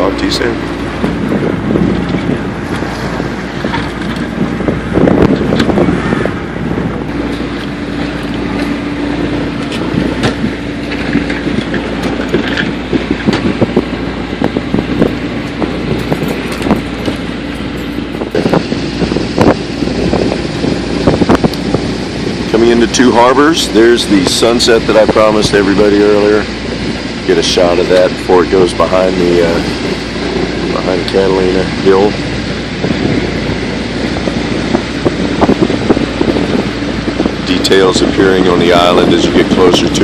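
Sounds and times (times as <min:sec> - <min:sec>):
boat noise: 0:00.0 - 0:40.0
water rushing: 0:00.0 - 0:40.0
wind buffeting microphone: 0:00.0 - 0:40.0.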